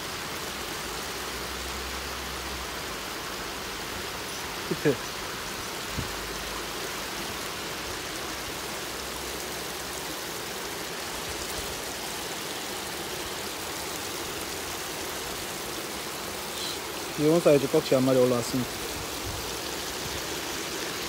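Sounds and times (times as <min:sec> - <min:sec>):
stream flowing over pebbles: 0:00.0 - 0:21.0.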